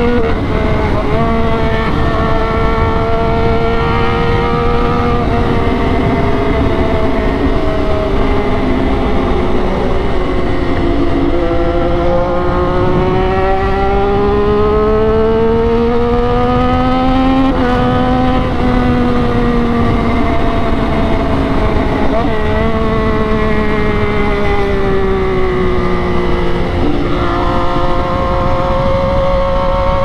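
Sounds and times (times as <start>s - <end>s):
motorcycle engine revving: 0.0s - 30.0s
wind rush: 0.0s - 30.0s.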